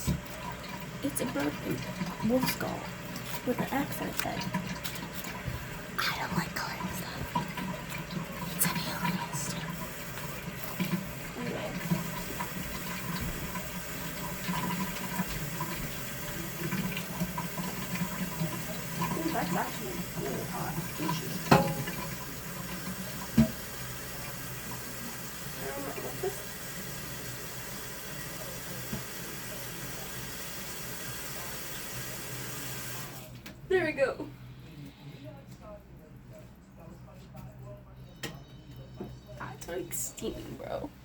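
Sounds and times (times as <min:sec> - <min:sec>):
pot of water heating hiss: 0:00.0 - 0:33.3.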